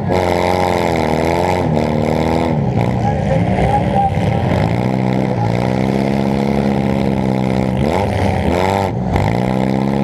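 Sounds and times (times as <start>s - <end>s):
car engine running and revving: 0.0s - 10.0s.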